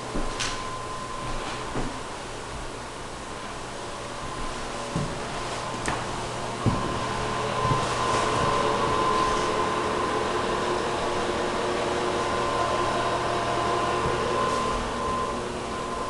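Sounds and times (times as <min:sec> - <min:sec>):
machine hum: 0:00.0 - 0:16.0
thin steady whine: 0:00.0 - 0:16.0.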